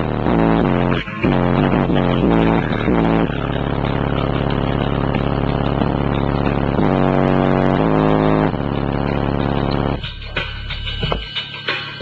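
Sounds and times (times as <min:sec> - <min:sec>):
bass-heavy music from subwoofer: 0:00.0 - 0:12.0.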